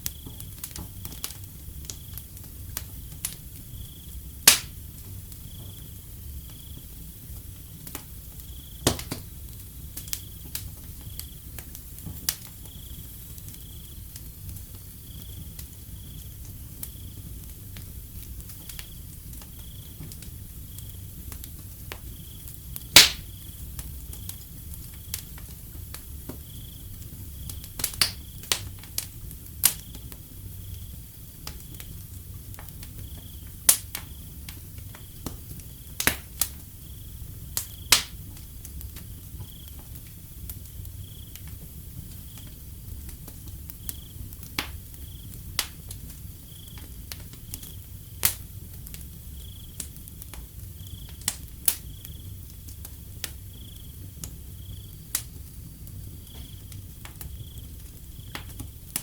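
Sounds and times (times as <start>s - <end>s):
crickets chirping: 0.0s - 59.0s
wood fire crackling: 0.0s - 59.0s.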